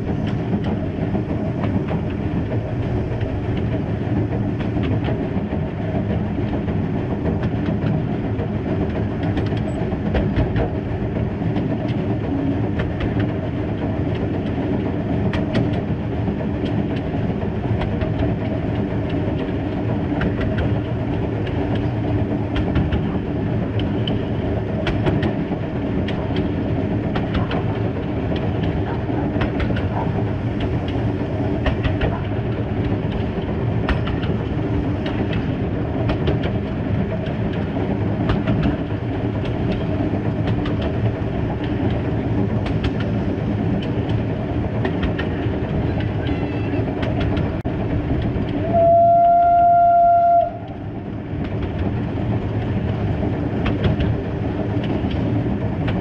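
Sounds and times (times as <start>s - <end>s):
steam locomotive running: 0.0s - 56.0s
wheels clicking over rail joints: 0.1s - 49.5s, 50.4s - 56.0s.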